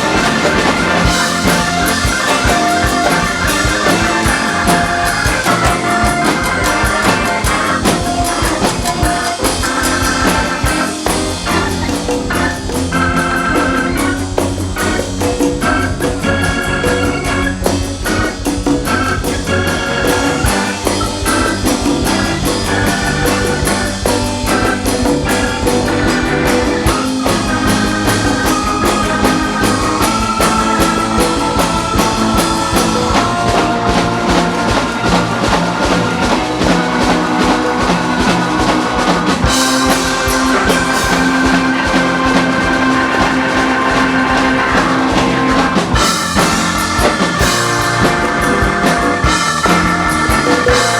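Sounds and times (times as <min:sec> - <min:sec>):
drum kit groove: 0:00.0 - 0:50.9
live band playing: 0:00.0 - 0:50.9.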